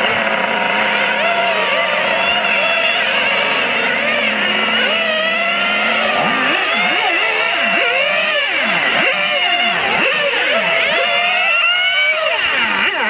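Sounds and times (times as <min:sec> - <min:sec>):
model car motors whining: 0:00.0 - 0:13.0.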